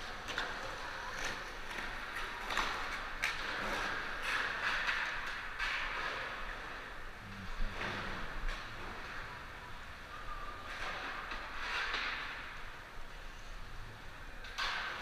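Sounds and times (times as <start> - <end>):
skateboards clacking: 0.0 - 7.2, 8.0 - 13.1
skateboard wheels rolling on concrete: 0.0 - 15.0.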